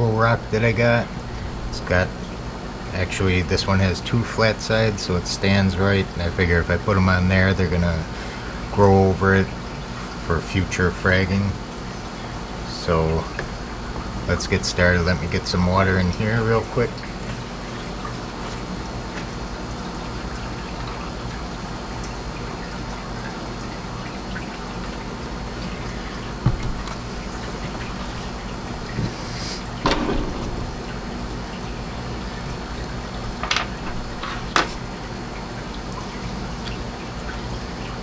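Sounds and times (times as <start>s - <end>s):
running water: 0.0s - 38.0s.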